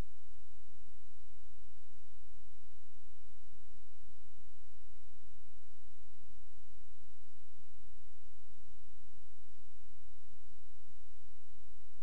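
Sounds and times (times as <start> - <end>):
faint steady hiss: 0.0 - 12.0
low electrical hum: 0.0 - 12.0.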